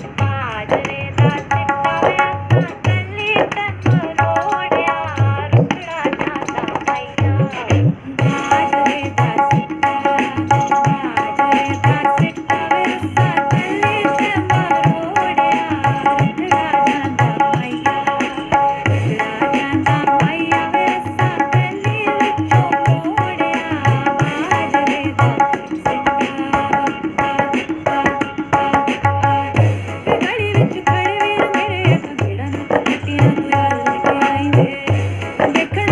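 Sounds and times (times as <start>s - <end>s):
recorded song music: 0.0s - 35.9s
tabla drumming: 0.0s - 35.9s.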